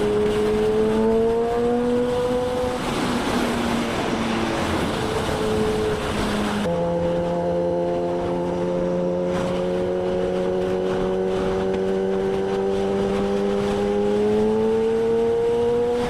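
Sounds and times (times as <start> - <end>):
motorcycle engine cruising: 0.0 - 16.0
wind rush: 0.0 - 16.0.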